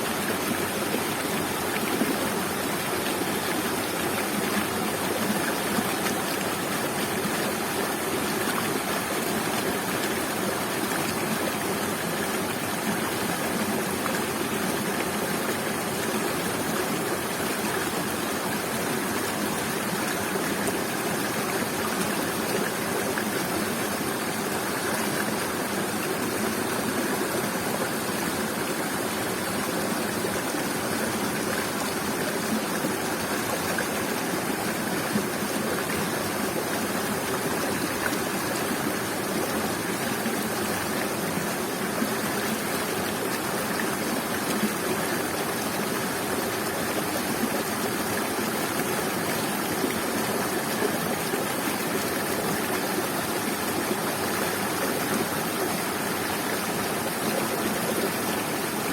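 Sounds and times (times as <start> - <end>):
waterfall and stream rushing: 0.0 - 58.9.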